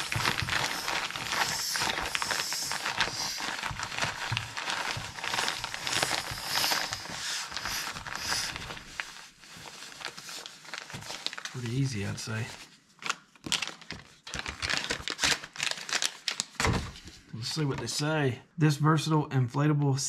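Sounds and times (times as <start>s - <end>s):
vinyl crinkling and rustling: 0.0s - 18.2s.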